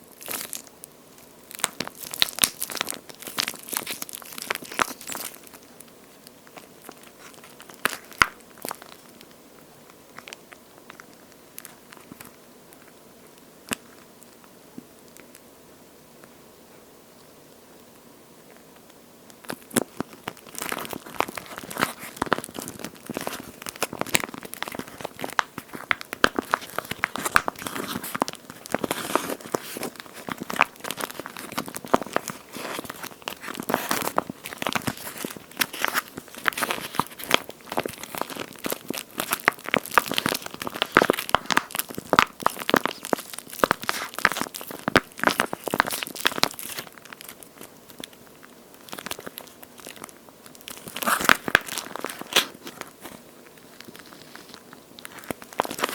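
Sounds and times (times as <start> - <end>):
squishy toy crackling and crinkling: 0.0 - 15.4, 18.5 - 55.9.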